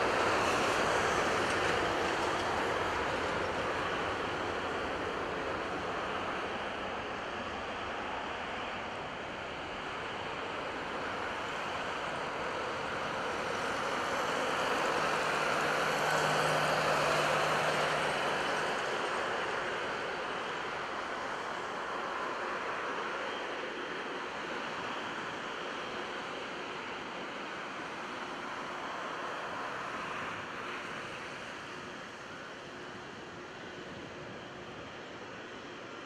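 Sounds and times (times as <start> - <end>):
jet engines at takeoff thrust: 0.0 - 36.0.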